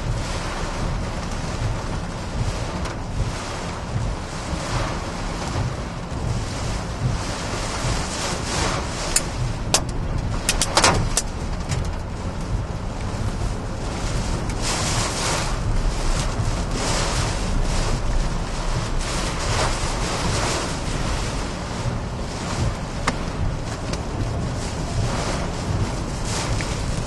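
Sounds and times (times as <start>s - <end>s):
wind and rain against car: 0.0s - 27.0s
wind buffeting microphone: 0.0s - 27.0s.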